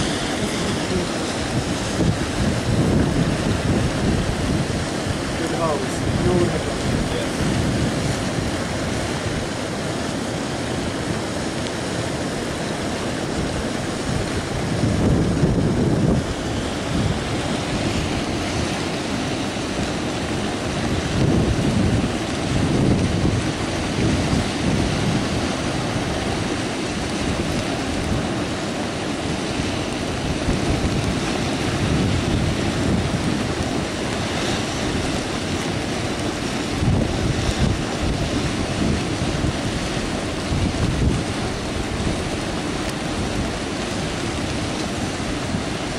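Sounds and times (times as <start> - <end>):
river rushing roar: 0.0 - 45.9
wind buffeting microphone: 0.0 - 45.9.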